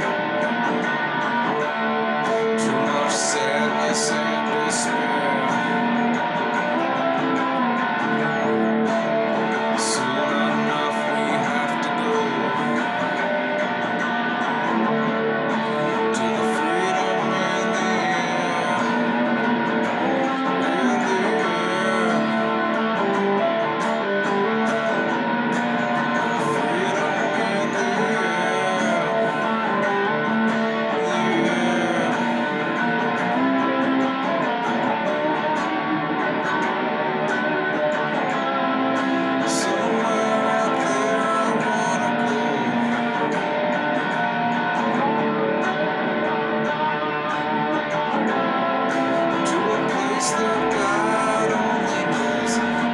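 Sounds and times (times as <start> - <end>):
electric guitar playing: 0.0 - 52.9.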